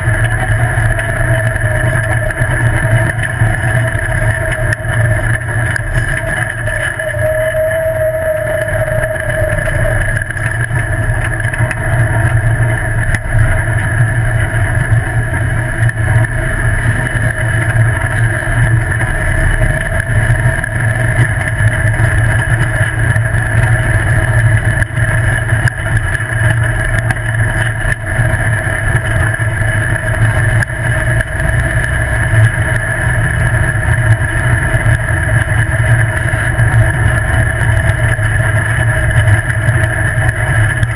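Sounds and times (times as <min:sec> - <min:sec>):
buggy engine running: 0:00.0 - 0:40.9
tyre and road noise: 0:00.0 - 0:40.9.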